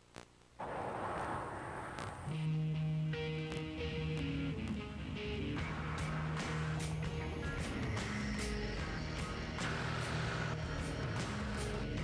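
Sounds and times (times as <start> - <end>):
guitar background music: 2.3 - 12.0.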